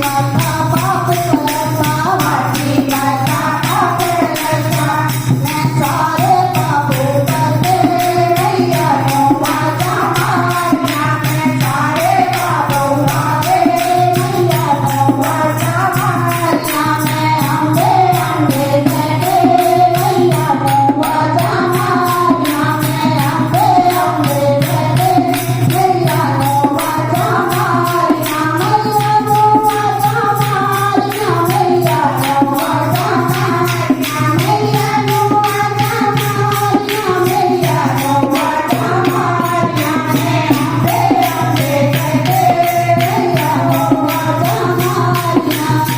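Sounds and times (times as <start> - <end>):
hand percussion beat: 0.0 - 45.9
tambourine jingles: 0.0 - 45.9
voices singing devotional song: 0.0 - 45.9.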